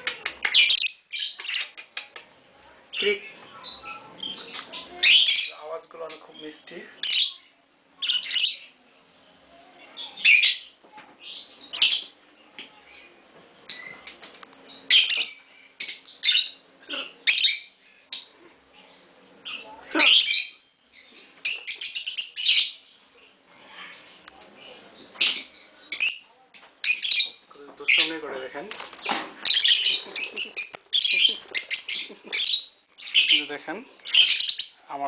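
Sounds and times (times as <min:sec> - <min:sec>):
lovebirds chirping: 0:00.0 - 0:35.0.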